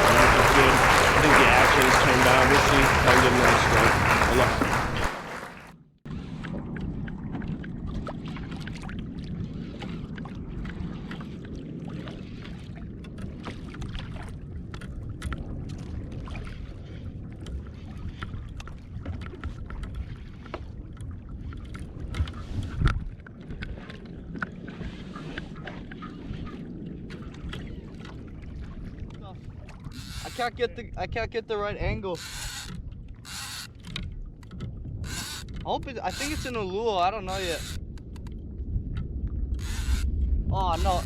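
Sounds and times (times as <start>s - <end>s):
water lapping against hull: 0.0s - 41.0s
wind on microphone: 6.1s - 41.0s.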